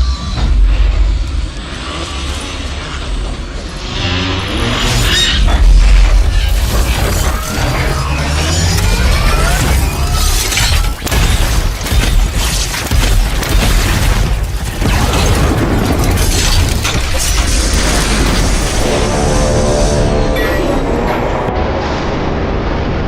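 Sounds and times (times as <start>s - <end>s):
mechanical clanking and grinding: 0.0s - 20.0s.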